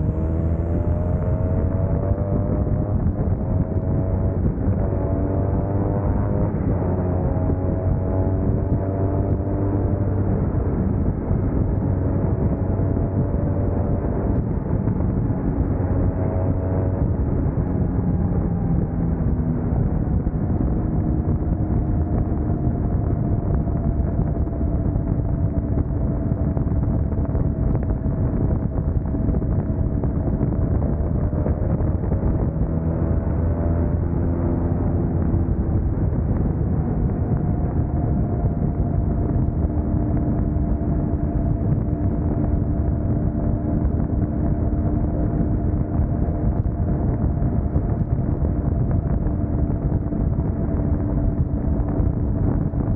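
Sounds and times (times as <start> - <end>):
motorcycle engine running: 0.0 - 52.9
wind rushing on microphone: 0.0 - 52.9.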